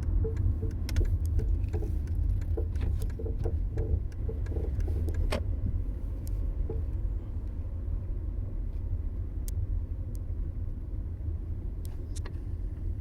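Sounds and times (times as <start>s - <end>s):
low road rumble: 0.0s - 13.0s.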